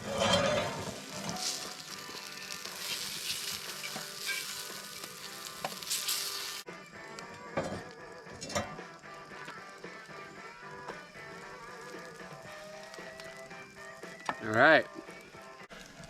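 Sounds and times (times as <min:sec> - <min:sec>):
food sizzling in oil: 0:00.0 - 0:06.7, 0:07.4 - 0:16.0
background music: 0:00.0 - 0:16.0.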